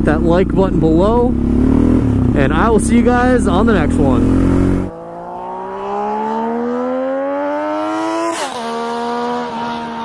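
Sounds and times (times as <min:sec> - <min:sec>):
quad engine accelerating: 0:00.0 - 0:10.0.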